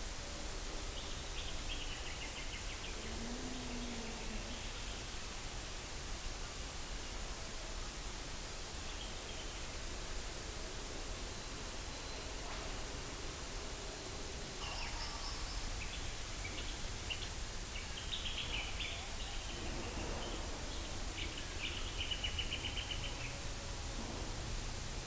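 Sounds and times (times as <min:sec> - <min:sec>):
field recording hiss: 0:00.0 - 0:25.0.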